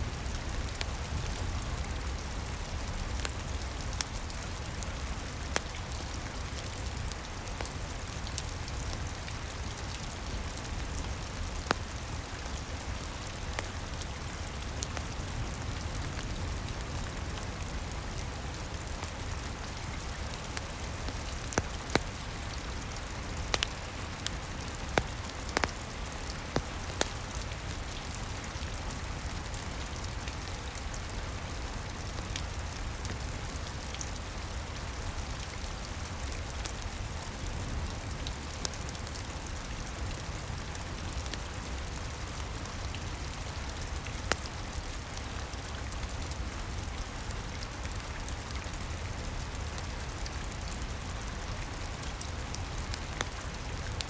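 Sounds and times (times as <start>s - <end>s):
rain on a roof: 0.0s - 54.0s
wood fire crackling: 0.0s - 54.0s.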